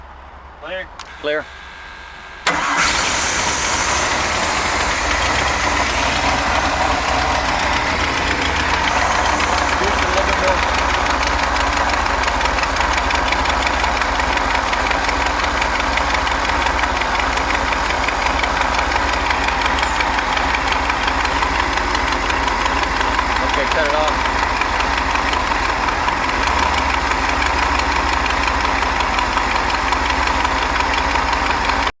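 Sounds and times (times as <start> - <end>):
boat engine idling: 1.2 - 31.9
fast exhaust ticking: 2.4 - 31.9.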